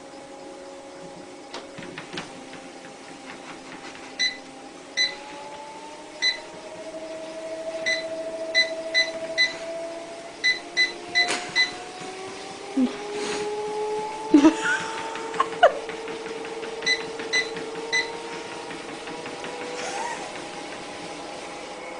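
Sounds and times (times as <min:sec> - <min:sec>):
treadmill motor whining: 0:00.0 - 0:21.9.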